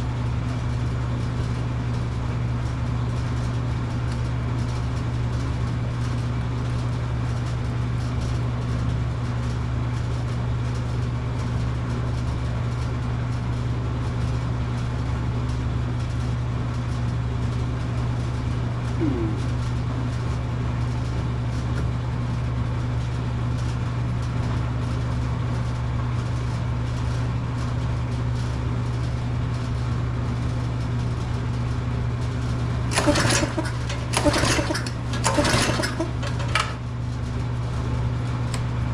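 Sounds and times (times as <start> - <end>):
small engine running steadily: 0.0 - 38.9.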